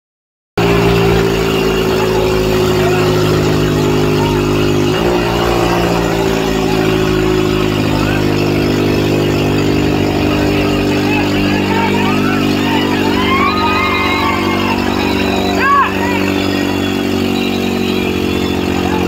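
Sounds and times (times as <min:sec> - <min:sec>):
tractor diesel engine running: 0:00.6 - 0:19.0.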